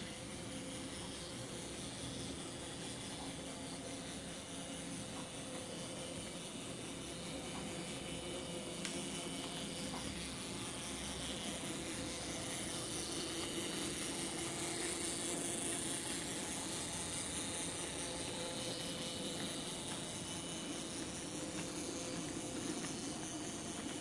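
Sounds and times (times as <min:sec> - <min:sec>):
model train rolling on rails: 0:00.0 - 0:24.0
small electric motor whirring: 0:00.0 - 0:24.0.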